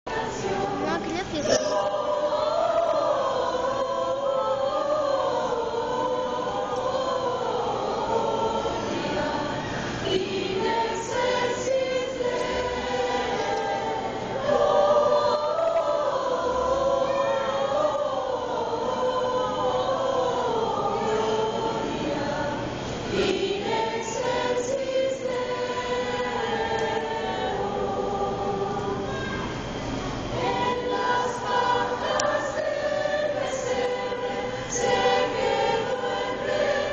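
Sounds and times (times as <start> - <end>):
mixed choir singing: 0.0 - 36.9.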